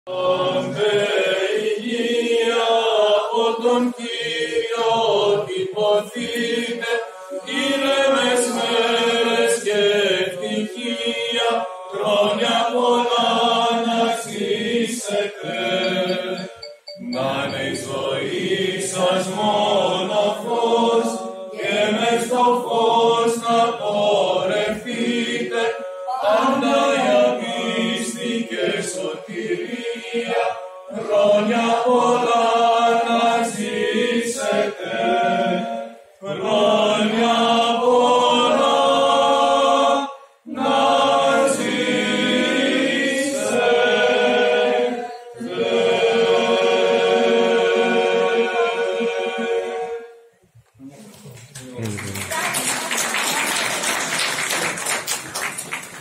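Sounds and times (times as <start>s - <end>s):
mixed choir singing chant: 0.1s - 50.3s.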